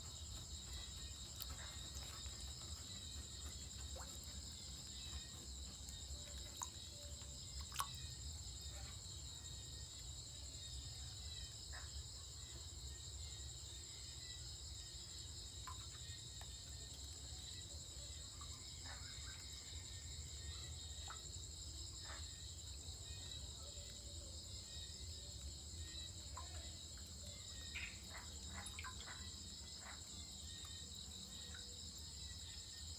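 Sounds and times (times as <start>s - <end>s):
insect chorus trilling: 0.0s - 32.9s.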